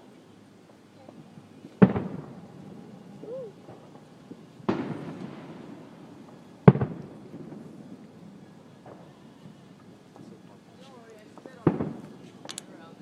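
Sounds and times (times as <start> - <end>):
fireworks booming: 0.7 - 10.5, 11.2 - 12.6.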